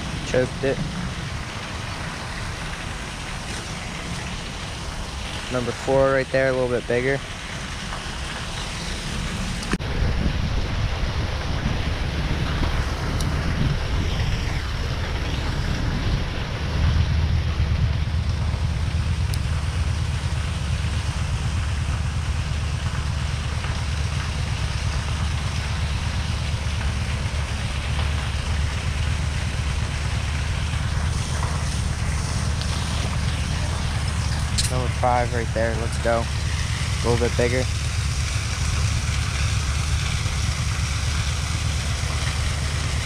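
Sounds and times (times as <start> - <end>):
wind buffeting microphone: 8.4 - 43.0.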